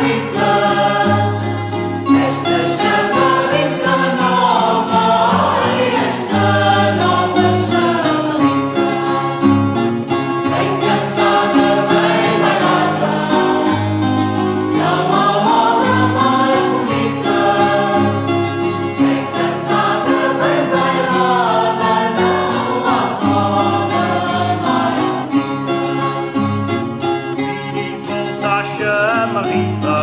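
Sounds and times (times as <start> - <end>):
voices singing together: 0.0 - 26.0, 27.4 - 30.0
guitar and plucked strings: 0.0 - 30.0.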